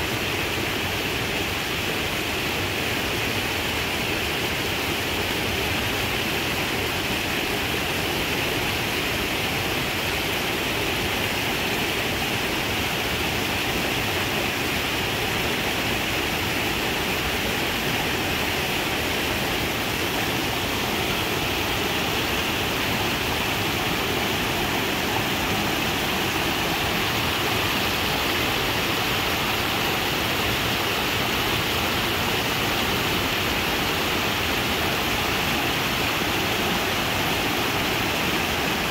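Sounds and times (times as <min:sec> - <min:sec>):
small waterfall pouring: 0:00.1 - 0:38.9.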